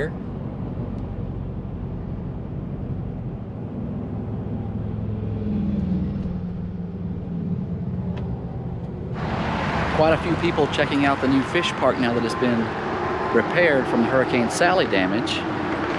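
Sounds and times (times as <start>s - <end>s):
vehicle engine rumble: 0.0s - 15.9s.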